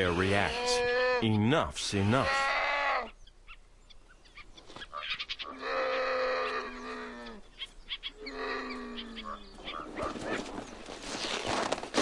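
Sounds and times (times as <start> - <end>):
wild animal calling: 0.0 - 10.4.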